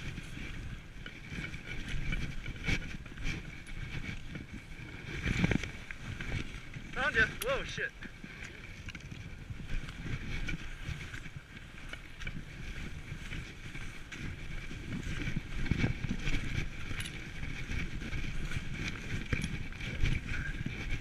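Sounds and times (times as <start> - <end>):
skis swishing through powder snow: 0.0 - 21.0
wind noise on microphone: 0.0 - 21.0.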